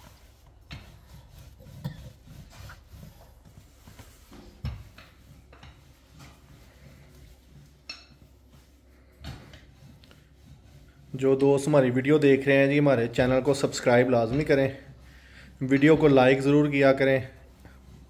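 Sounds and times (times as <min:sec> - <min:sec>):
rolling pin rubbing dough: 0:00.0 - 0:18.0.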